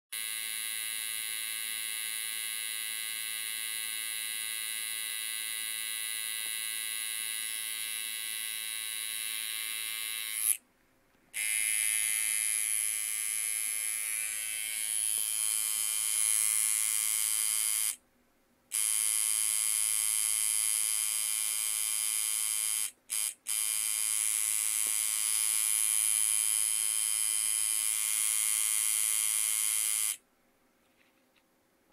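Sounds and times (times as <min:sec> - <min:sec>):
high-pitched electrical buzz: 0:00.2 - 0:10.6, 0:11.4 - 0:18.0, 0:18.7 - 0:30.2.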